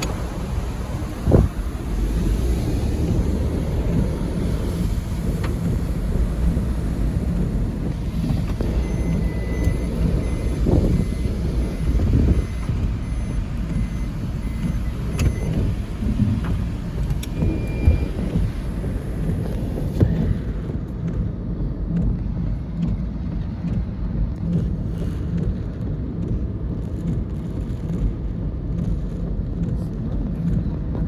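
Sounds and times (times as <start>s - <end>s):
car rumbling: 0.0s - 31.0s.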